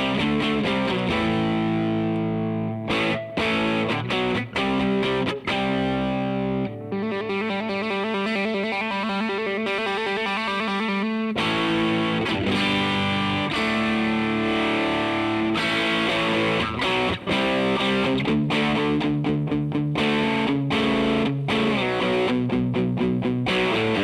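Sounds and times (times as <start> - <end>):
distorted electric guitar: 0.0 - 24.0.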